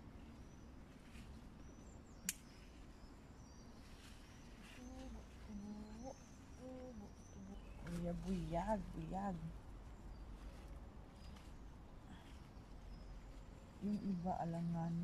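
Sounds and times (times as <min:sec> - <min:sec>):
faint bird chirps: 0:00.0 - 0:15.0
faint low murmur: 0:00.0 - 0:15.0.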